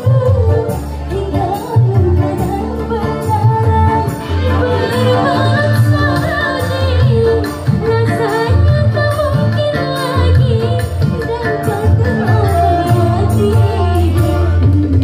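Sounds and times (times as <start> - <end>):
keyboard: 0.0 - 15.0
woman singing into microphone: 0.0 - 15.0.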